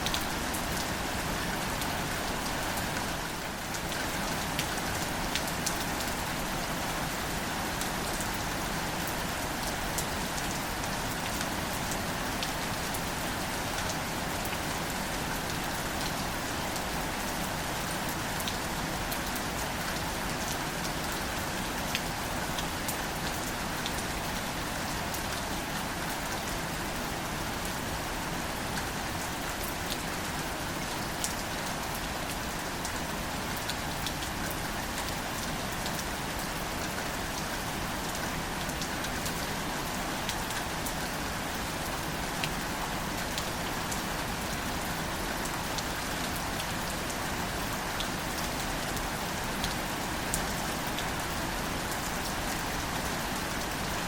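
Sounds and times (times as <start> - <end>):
gentle rain falling on leaves: 0.0 - 54.0.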